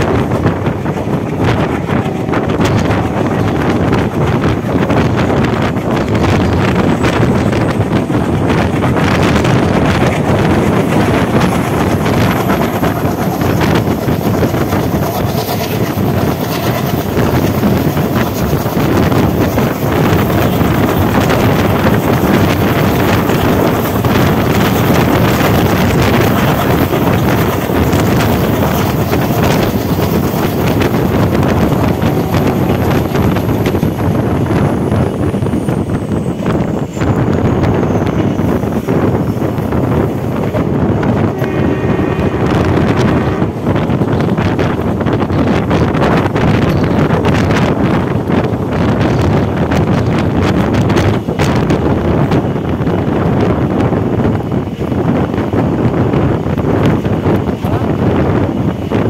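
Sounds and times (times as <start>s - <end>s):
train running on rails: 0.0s - 59.0s
wind buffeting the microphone: 0.0s - 59.0s.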